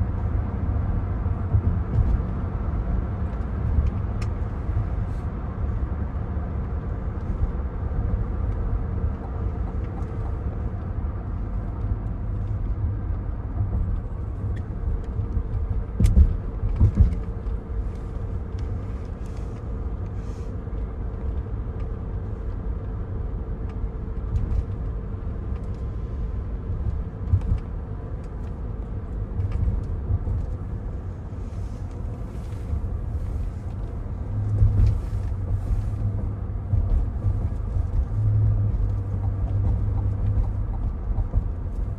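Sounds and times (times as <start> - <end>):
car cabin road rumble: 0.0 - 41.9.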